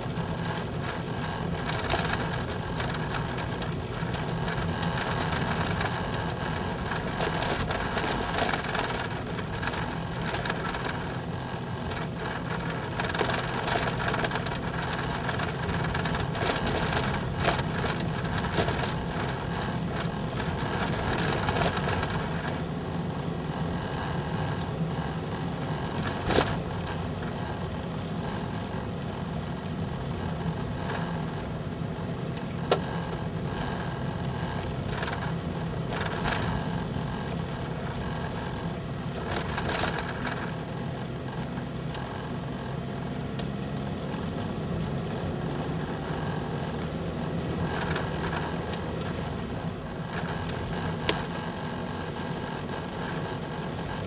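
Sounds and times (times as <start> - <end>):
vehicle engine hum and road noise: 0.0 - 54.0.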